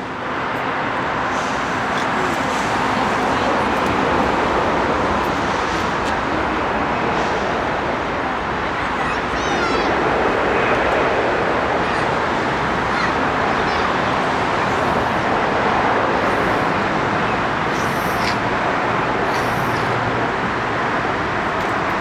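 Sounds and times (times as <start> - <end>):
jet engine noise: 0.0 - 22.0.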